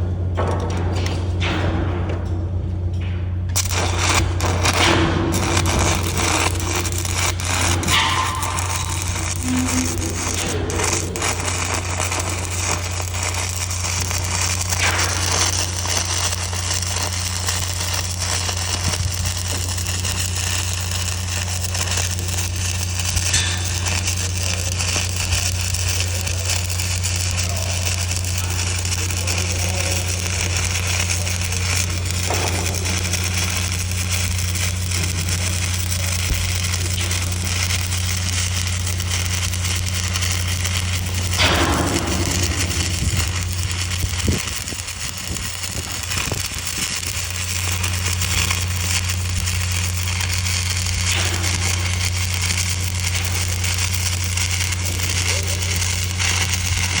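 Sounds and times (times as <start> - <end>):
low hum: 0.0 - 57.0
welding arc crackling: 0.0 - 57.0.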